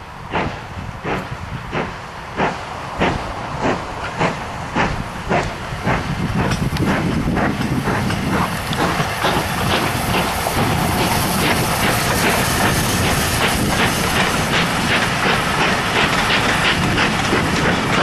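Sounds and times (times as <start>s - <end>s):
steam hiss and rumble: 0.0s - 18.0s
steam locomotive exhaust chuffing: 0.0s - 18.0s.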